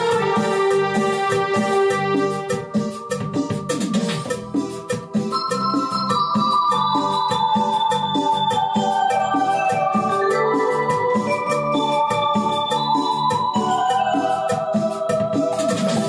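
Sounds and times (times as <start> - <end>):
keyboard drum beat: 0.0 - 16.0
keyboard lead melody: 0.0 - 16.0
repeating bass line: 0.0 - 16.0.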